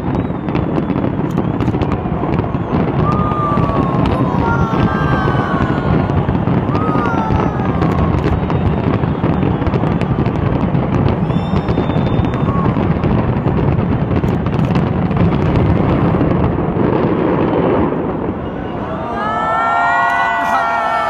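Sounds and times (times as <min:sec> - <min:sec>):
fireworks bangs and crackles: 0:00.0 - 0:18.9.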